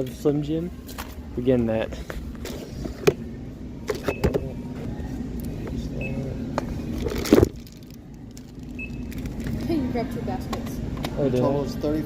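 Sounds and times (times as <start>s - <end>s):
low store hum: 0.0s - 12.0s.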